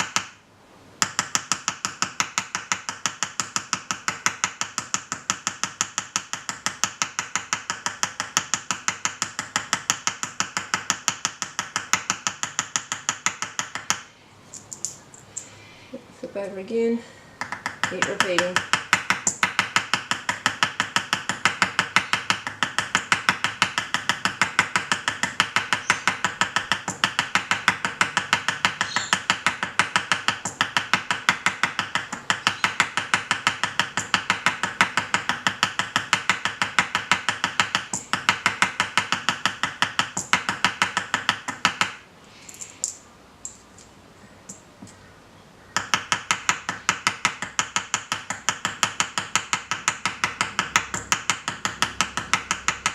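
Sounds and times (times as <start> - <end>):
small hammer tapping metal: 1.0 - 15.0, 17.4 - 43.9, 45.8 - 52.9.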